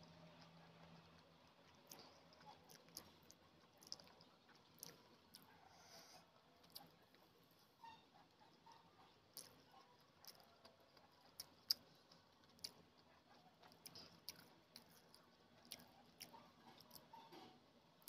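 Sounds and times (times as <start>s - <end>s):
fingers squishing food: 0.1s - 5.7s, 7.8s - 18.0s.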